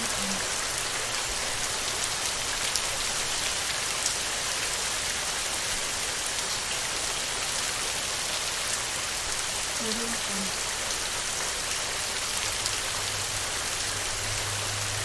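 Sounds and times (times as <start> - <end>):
heavy rain on a metal roof: 0.0 - 15.0
sharp ticks of raindrops: 0.0 - 15.0.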